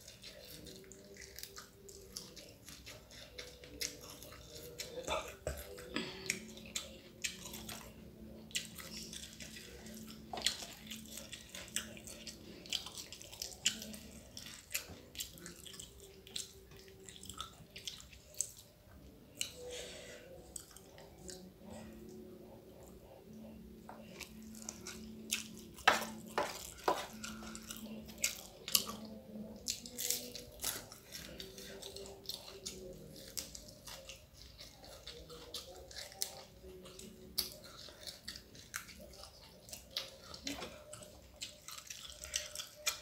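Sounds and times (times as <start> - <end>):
crunchy chewing with mouth clicks: 0.0 - 43.0
faint low hum: 0.0 - 43.0.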